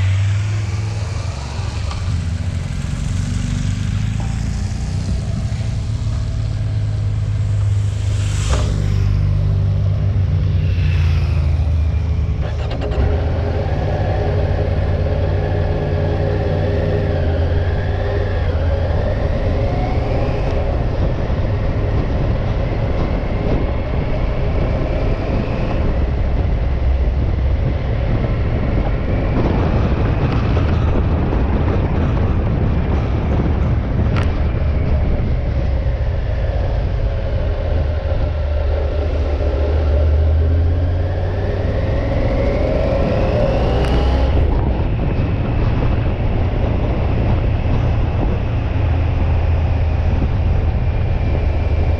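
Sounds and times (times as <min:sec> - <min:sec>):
motorcycle engine: 0:00.0 - 0:51.9
wind noise: 0:00.0 - 0:51.9.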